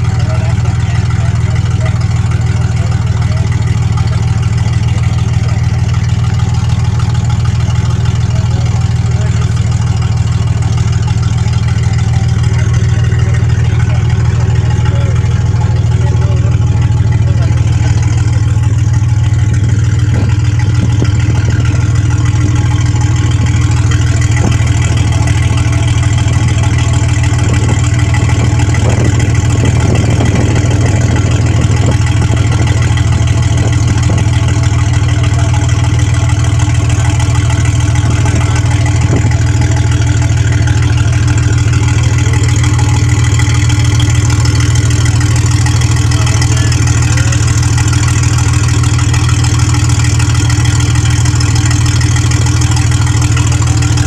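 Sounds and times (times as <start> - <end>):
boat engine deep hum: 0.0 - 54.0.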